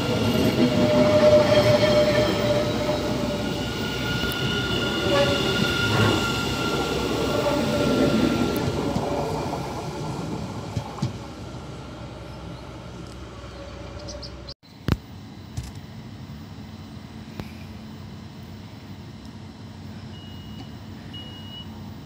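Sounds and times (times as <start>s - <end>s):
electric train rumbling: 0.0s - 22.0s
train humming at platform: 0.0s - 22.0s.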